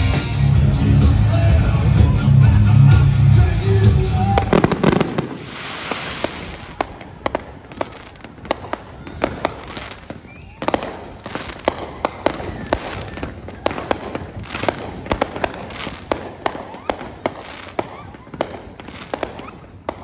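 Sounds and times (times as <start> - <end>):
fireworks crackling: 2.6 - 20.0.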